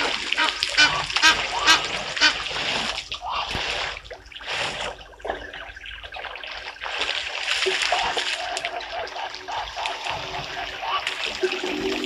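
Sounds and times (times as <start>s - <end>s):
elephants splashing water: 0.0s - 12.0s.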